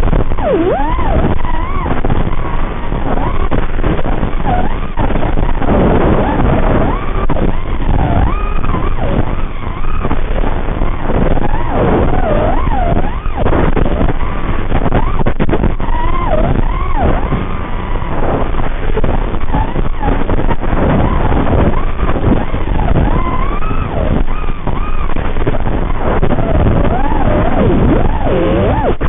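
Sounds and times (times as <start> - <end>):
drone motors whining: 0.0 - 29.0
rough wind noise: 0.0 - 29.0
sharp crackles: 0.0 - 29.0.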